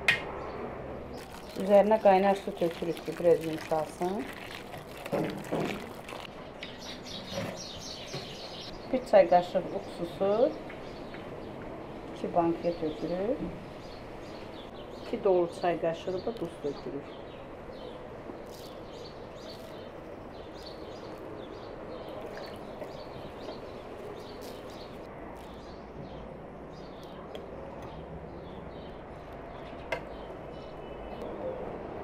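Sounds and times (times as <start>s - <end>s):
small birds chirping: 1.1s - 11.6s, 12.4s - 31.3s.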